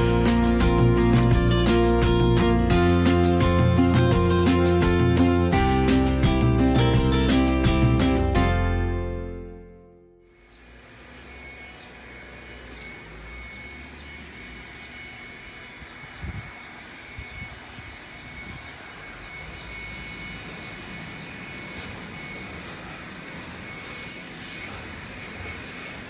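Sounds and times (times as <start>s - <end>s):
outdoor street noise: 0.0s - 8.7s, 10.3s - 26.0s.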